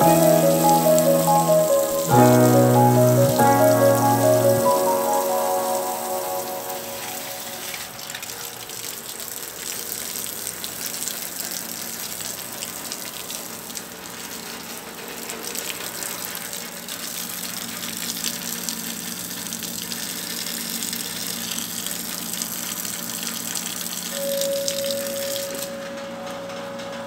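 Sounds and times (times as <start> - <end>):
water gushing: 0.0 - 25.7.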